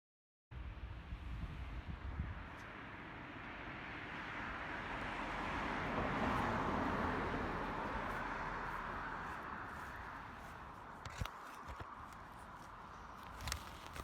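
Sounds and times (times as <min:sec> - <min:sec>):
road vehicle passing: 0:01.0 - 0:14.0.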